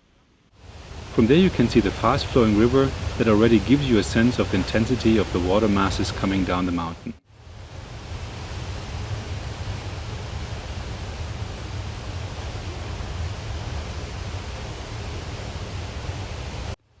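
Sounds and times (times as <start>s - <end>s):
glacial stream rushing: 0.6s - 16.8s.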